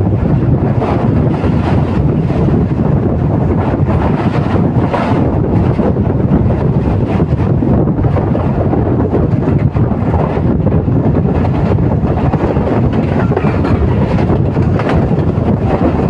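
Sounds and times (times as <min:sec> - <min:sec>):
train rushing past on rails: 0:00.0 - 0:16.0
wind buffeting microphone: 0:00.0 - 0:16.0.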